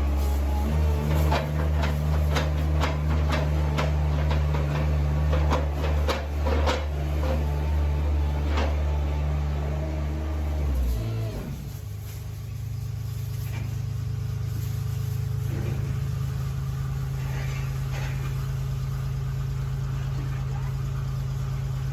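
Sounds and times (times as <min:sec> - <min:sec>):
faint engine knocks: 0:00.0 - 0:09.5, 0:10.5 - 0:21.9
engine running steadily: 0:00.0 - 0:21.9.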